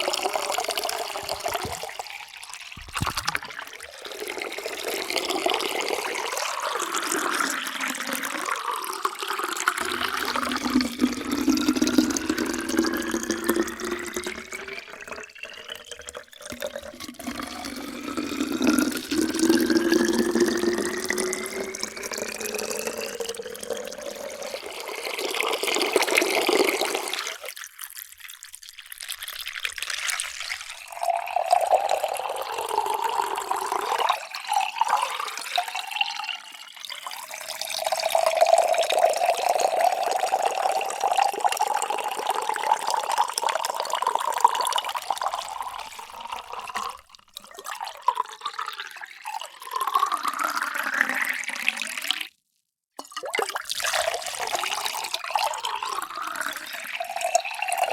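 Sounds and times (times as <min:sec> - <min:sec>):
water pouring into a vessel: 0:00.0 - 0:52.4, 0:53.0 - 0:57.9.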